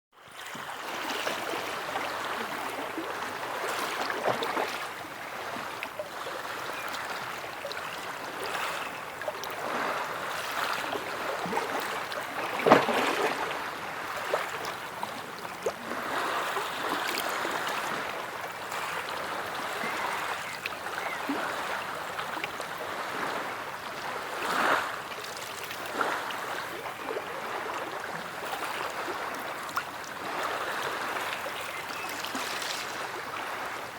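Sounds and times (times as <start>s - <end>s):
sea water lapping: 0.4s - 33.9s
water splashes: 0.4s - 33.9s.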